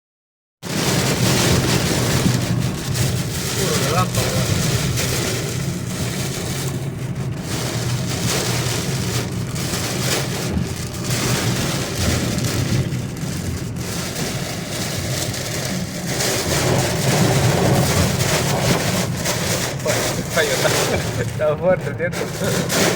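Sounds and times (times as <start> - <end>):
gusting wind: 0.6 - 22.9
heavy rain: 0.6 - 22.9
low rumble: 0.7 - 22.9.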